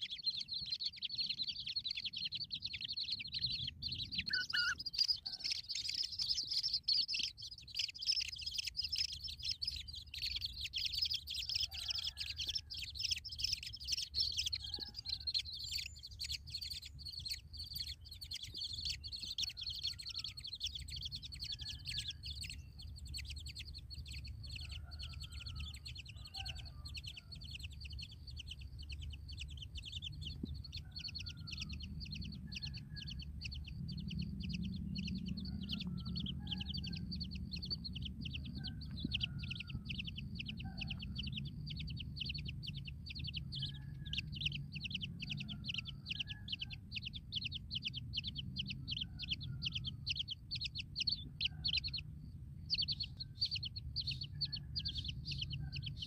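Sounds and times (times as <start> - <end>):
nestlings chirping: 0.0 - 56.0
steady low rumble: 0.1 - 11.6, 12.3 - 56.0.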